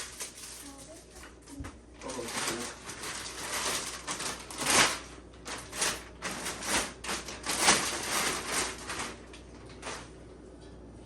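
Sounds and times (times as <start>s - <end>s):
packaging rustling and crinkling: 0.0s - 10.2s.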